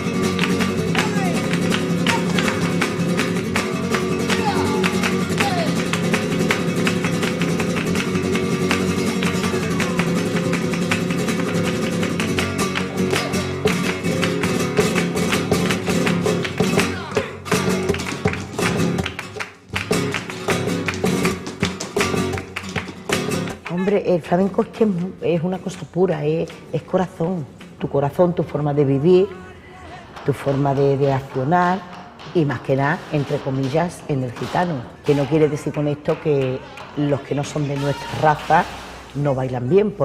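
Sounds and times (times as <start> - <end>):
flamenco acoustic guitar: 0.0 - 40.0.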